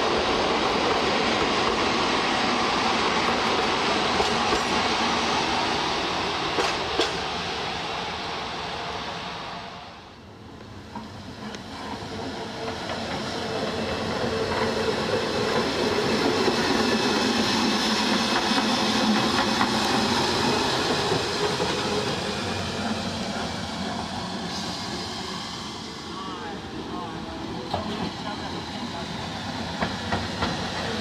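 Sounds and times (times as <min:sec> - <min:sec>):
electric locomotive passing on rails: 0:00.0 - 0:31.0.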